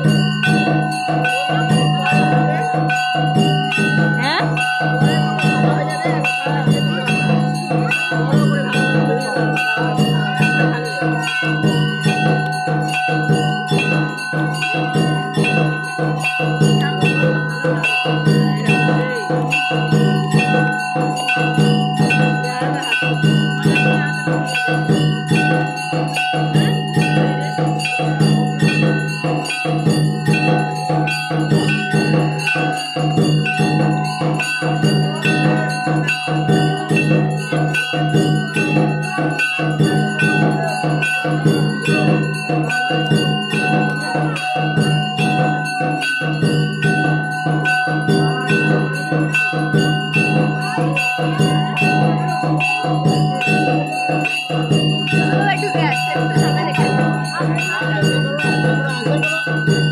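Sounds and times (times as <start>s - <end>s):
temple bells ringing rapidly: 0.0s - 59.9s.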